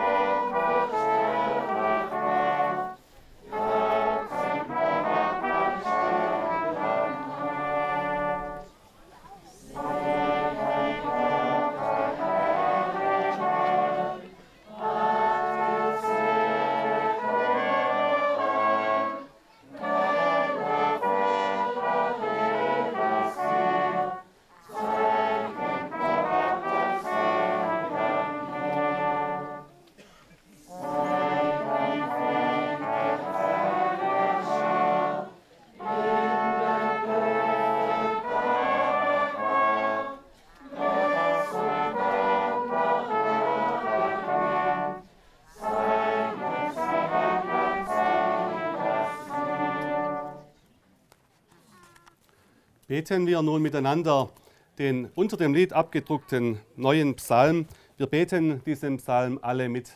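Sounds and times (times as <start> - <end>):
brass ensemble playing a hymn: 0.0 - 50.6.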